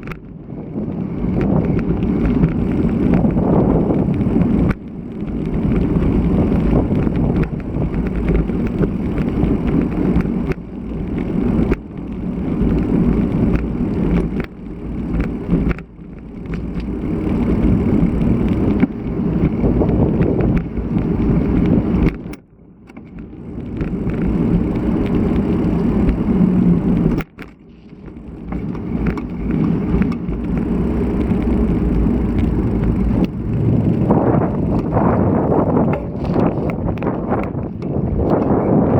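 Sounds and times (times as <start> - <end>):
wind rumbling on microphone: 0.0 - 22.4, 23.0 - 38.9.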